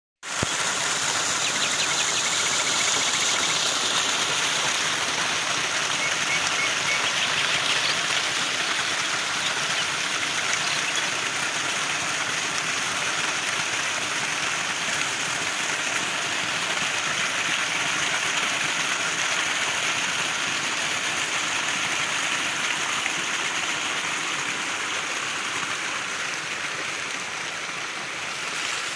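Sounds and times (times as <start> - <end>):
water rushing: 0.2 - 28.9.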